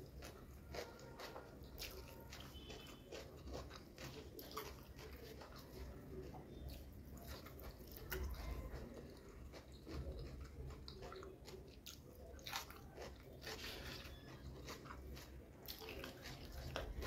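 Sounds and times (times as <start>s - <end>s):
close chewing with mouth clicks: 0.0s - 17.0s
small crunches: 0.0s - 17.0s.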